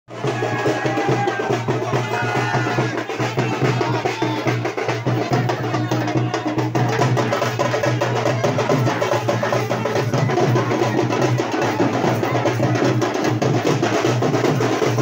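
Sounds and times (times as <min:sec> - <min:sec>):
drums beaten fast: 0:00.1 - 0:15.0.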